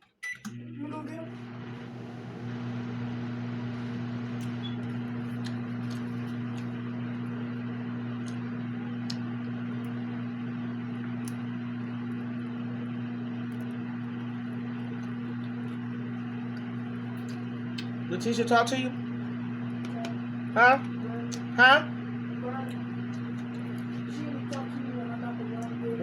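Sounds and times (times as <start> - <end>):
appliance hum and fan noise: 0.2 - 26.0.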